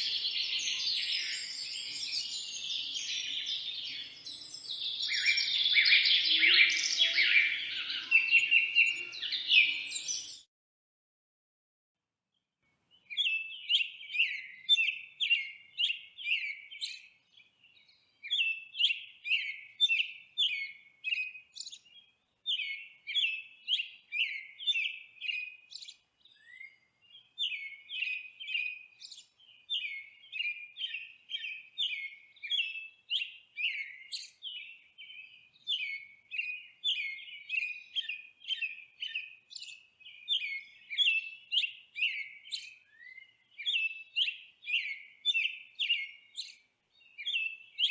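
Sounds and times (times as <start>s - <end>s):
small bird chirping: 0.0s - 10.5s, 12.9s - 47.9s.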